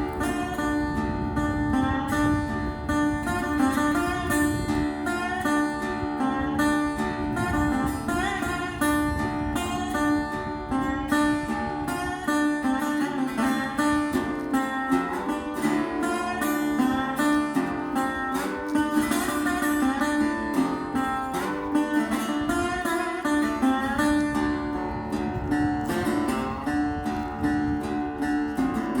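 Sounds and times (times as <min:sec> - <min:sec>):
acoustic guitar background music: 0:00.0 - 0:29.0.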